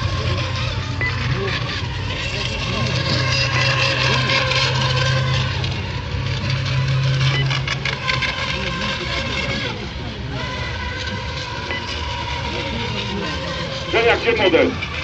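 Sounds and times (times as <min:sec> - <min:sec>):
low hum: 0:00.0 - 0:15.0
model boat motors: 0:00.0 - 0:15.0.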